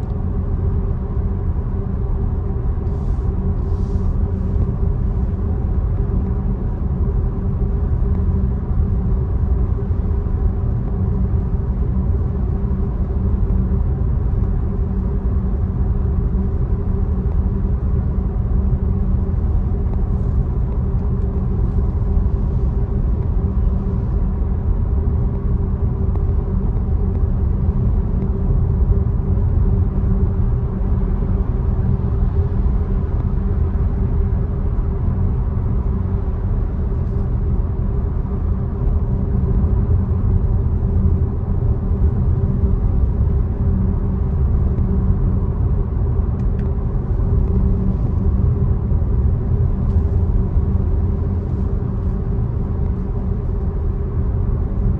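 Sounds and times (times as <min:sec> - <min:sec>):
car road rumble: 0:00.0 - 0:54.9.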